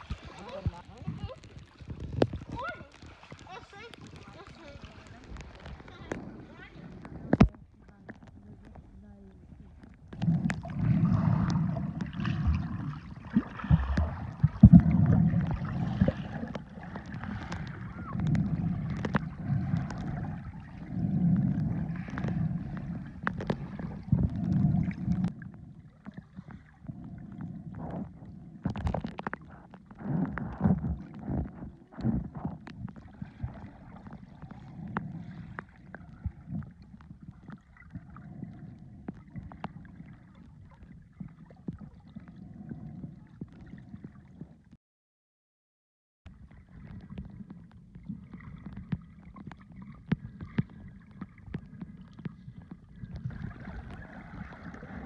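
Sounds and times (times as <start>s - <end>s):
underwater rumbling and gurgling: 0.0s - 44.8s, 46.3s - 55.0s.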